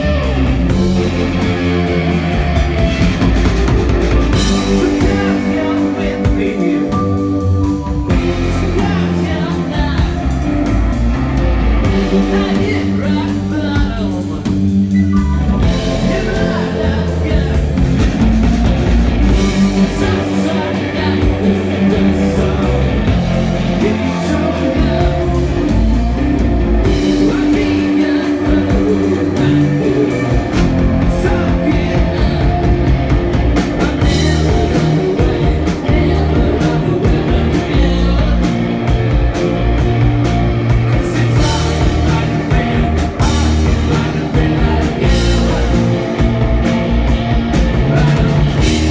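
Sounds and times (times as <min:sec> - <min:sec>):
drum kit: 0:00.0 - 0:48.9
electric bass: 0:00.0 - 0:48.9
electric guitars: 0:00.0 - 0:48.9
lead vocal singing: 0:00.0 - 0:48.9.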